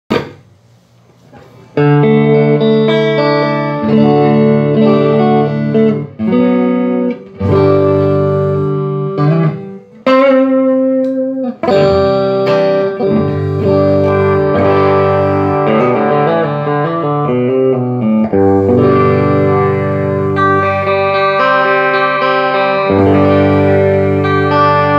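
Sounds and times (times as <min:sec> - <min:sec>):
electric guitar strummed chords: 0:01.8 - 0:24.9.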